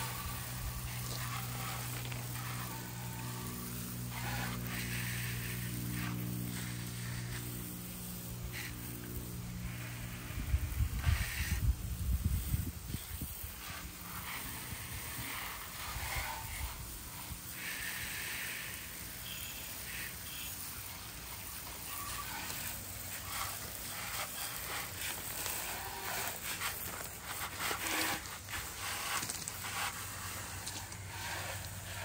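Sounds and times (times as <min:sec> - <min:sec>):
hose spraying water on motorcycle: 0:00.0 - 0:32.0.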